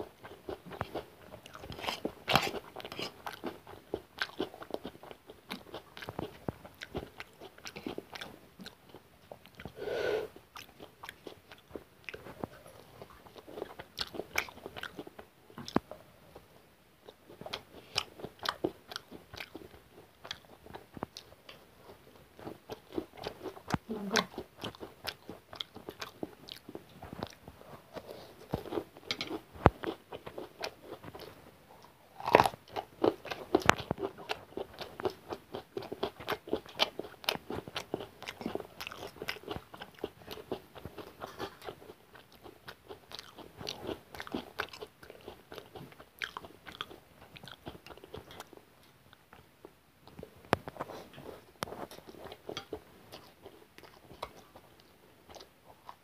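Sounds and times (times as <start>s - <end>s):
crunchy chewing: 0.0s - 49.4s, 50.0s - 56.0s.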